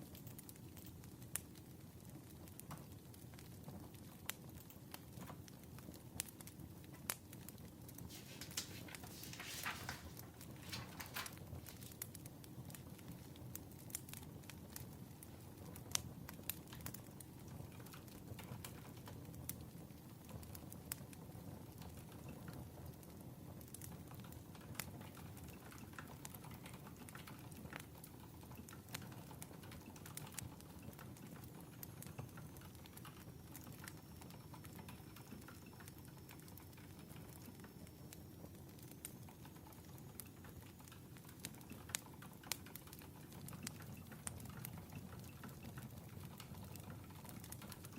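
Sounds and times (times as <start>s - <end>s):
crackling wood fire: 0.0s - 47.9s.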